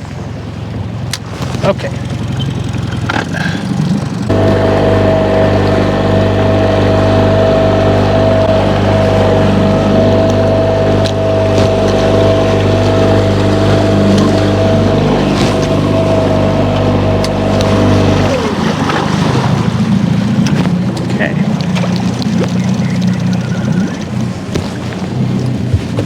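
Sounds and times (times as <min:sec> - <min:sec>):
boat motor whining: 0:00.0 - 0:26.0.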